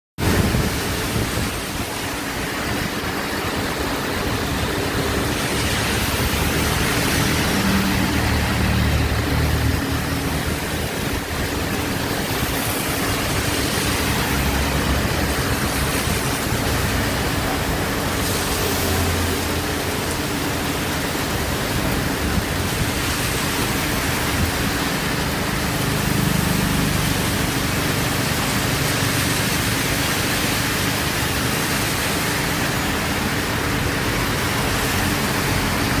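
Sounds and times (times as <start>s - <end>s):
heavy rain falling: 0.2s - 36.0s.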